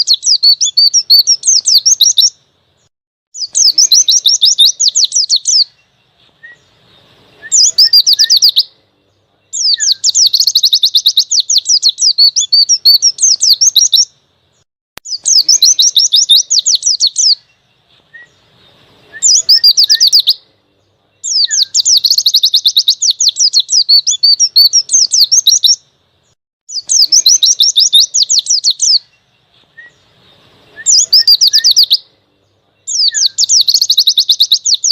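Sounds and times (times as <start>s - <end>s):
bird chattering trill song: 0.0s - 34.9s.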